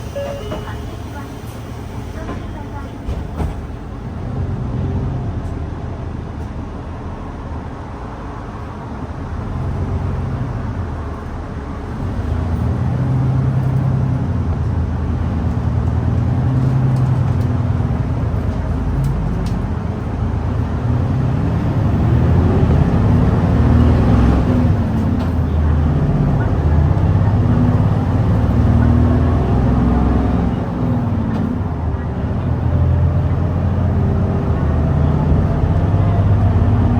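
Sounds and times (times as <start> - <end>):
bus engine pulling hard: 0.0 - 36.9
road noise: 0.0 - 36.9.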